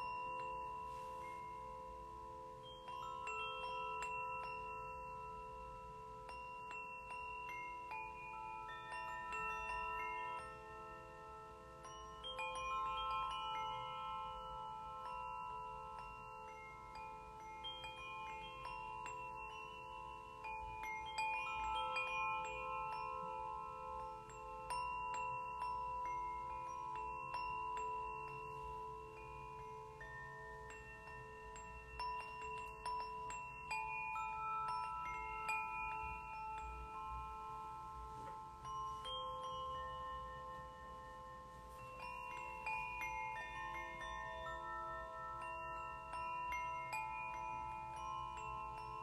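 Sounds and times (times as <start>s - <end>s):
steel tongue drum notes ringing: 0.0s - 49.0s.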